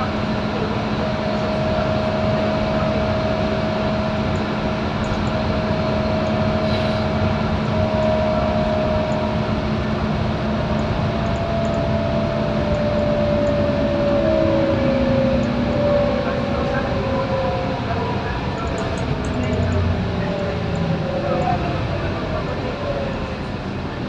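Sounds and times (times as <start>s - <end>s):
bus engine drone: 0.0s - 24.0s
engine whine: 0.0s - 24.0s.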